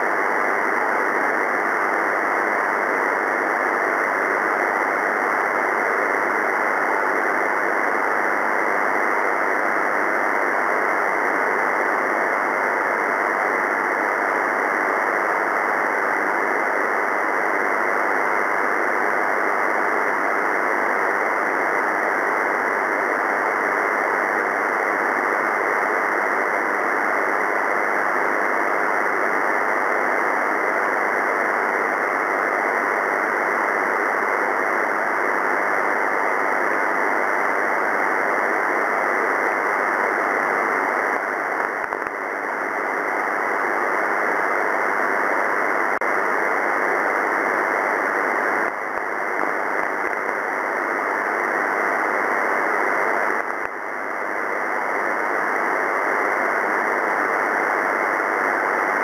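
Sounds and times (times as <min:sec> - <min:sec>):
radio receiver hiss: 0:00.0 - 0:59.0.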